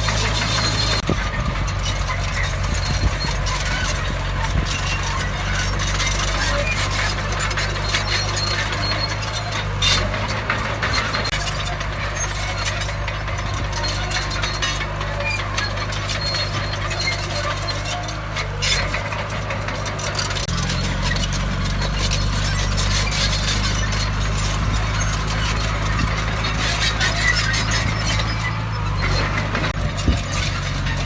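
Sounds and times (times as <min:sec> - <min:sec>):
diesel engine running: 0:00.0 - 0:31.0
metallic clanking and rattling: 0:00.0 - 0:31.0.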